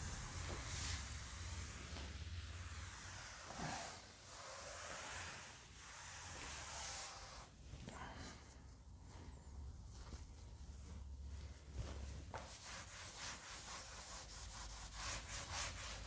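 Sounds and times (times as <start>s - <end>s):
cloth swishing on blackboard: 0.0s - 8.0s, 9.8s - 16.0s.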